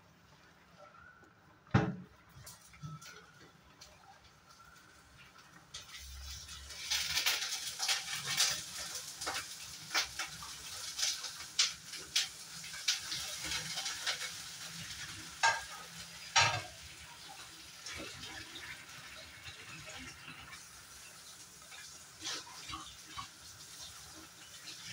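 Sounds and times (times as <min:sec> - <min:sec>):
milk sizzling and bubbling in pot: 0:00.0 - 0:24.9
sharp crackles and pops: 0:00.8 - 0:24.9.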